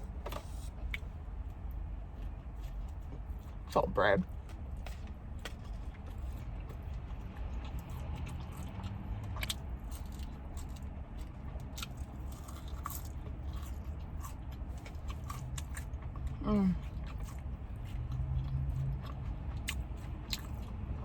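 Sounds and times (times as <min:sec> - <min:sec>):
chewing crunchy food: 0:00.4 - 0:21.0.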